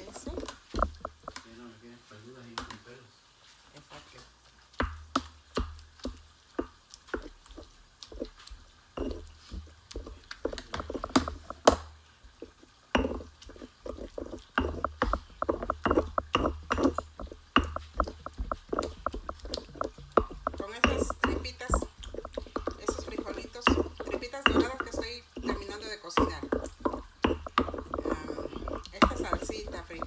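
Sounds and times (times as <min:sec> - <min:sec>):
stone pestle pounding and grinding: 0:00.0 - 0:01.5, 0:04.8 - 0:30.0.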